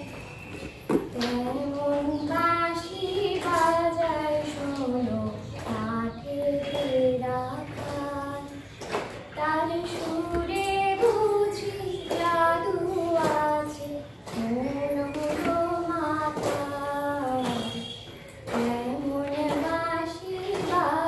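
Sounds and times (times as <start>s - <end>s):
woman singing slow melody: 1.1s - 8.7s, 9.4s - 21.0s.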